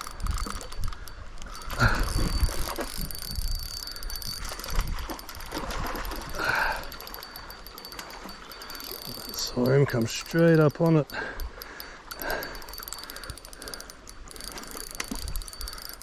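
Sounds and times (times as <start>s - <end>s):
fishing reel cranking: 0.0s - 16.0s.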